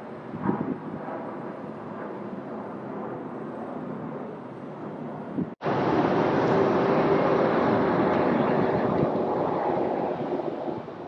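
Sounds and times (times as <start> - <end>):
jet engine roar: 0.0 - 11.0
landing jet airliner roar: 0.0 - 11.0.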